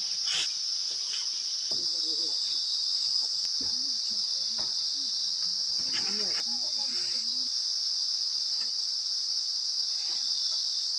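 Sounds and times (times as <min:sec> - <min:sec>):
crickets chirping: 0:00.0 - 0:10.9.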